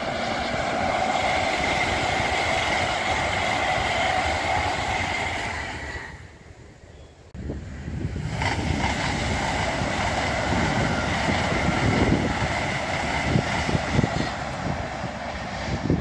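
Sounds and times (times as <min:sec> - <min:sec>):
high-speed train passing: 0:00.0 - 0:16.0
wind buffeting microphone: 0:00.0 - 0:16.0.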